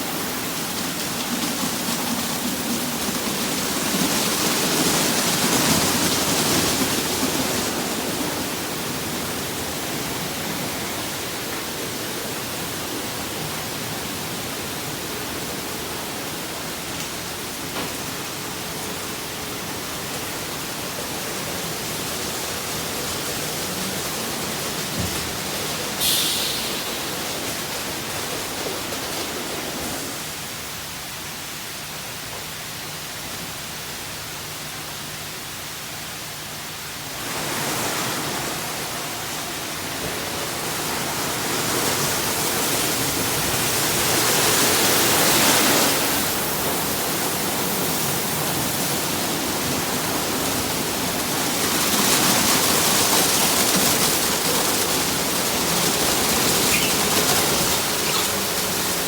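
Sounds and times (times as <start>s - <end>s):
car wash spraying water: 0.0s - 33.0s, 35.3s - 59.0s.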